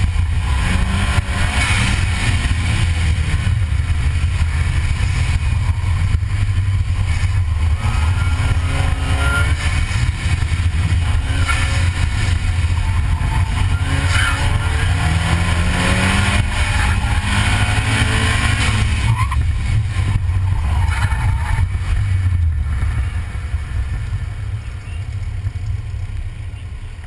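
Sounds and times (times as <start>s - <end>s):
car engine under hard throttle: 0.0s - 27.0s.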